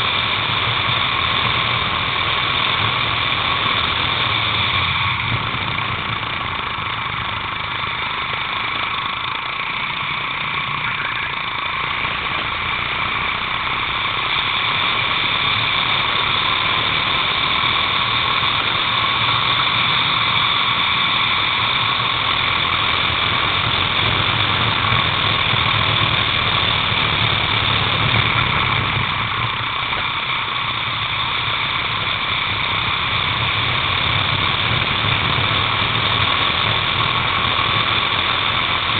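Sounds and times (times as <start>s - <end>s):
racing kart engine: 0.0s - 38.9s.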